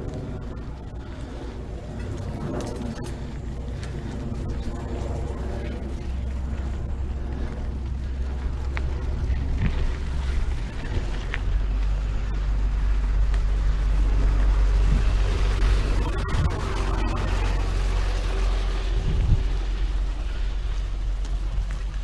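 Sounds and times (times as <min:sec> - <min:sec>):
bike trail noise: 0:00.0 - 0:22.0
wind rumbling on microphone: 0:00.0 - 0:22.0.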